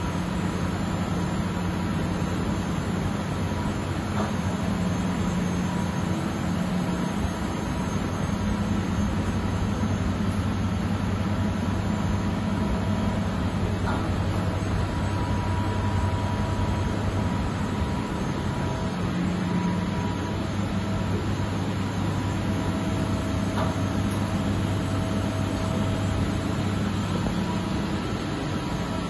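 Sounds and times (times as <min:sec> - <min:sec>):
industrial machinery humming: 0:00.0 - 0:29.0.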